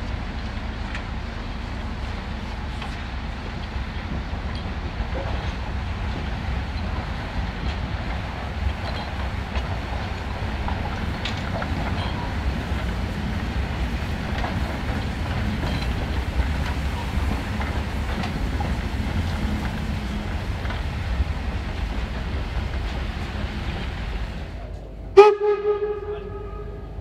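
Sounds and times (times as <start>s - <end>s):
steam locomotive rumbling past: 0.0s - 27.0s.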